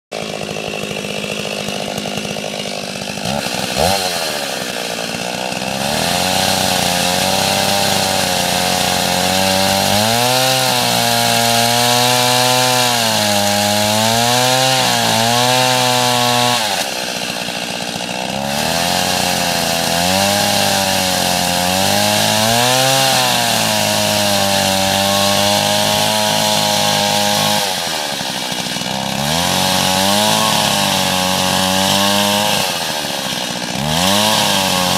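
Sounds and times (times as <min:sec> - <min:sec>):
chainsaw revving: 0:00.1 - 0:34.9.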